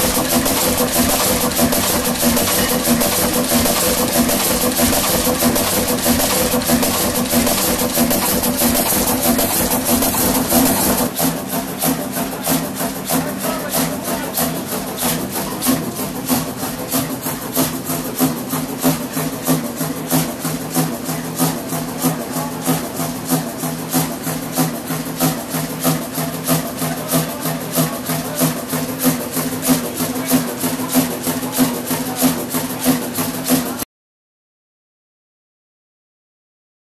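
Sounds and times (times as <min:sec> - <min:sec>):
diesel generator engine running: 0:00.0 - 0:33.6.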